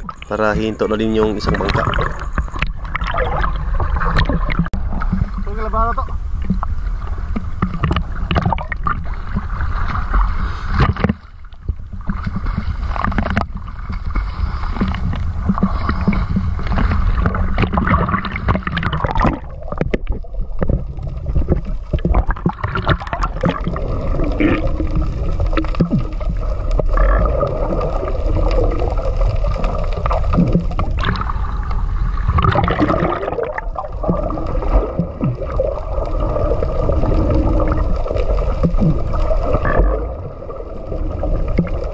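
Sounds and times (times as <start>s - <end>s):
water sloshing and gurgling: 0.0s - 41.9s.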